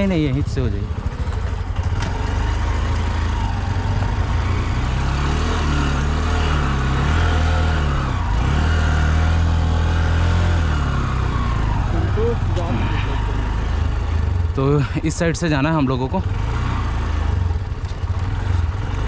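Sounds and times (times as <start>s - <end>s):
motorcycle engine at low speed: 0.0s - 19.0s.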